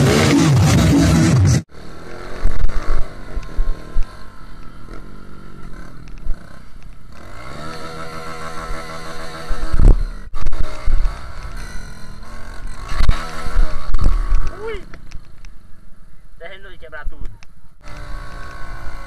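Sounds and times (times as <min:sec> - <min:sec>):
motorcycle engine revving: 0:00.0 - 0:16.4, 0:17.3 - 0:19.0.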